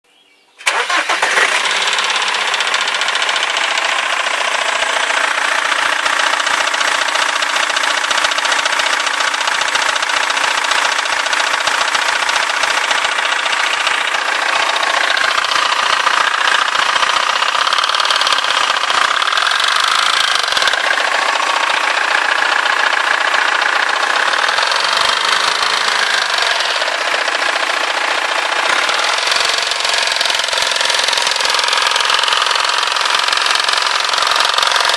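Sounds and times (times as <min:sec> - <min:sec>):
diesel engine running: 0:00.6 - 0:34.9
rapid engine knocking: 0:00.7 - 0:34.9.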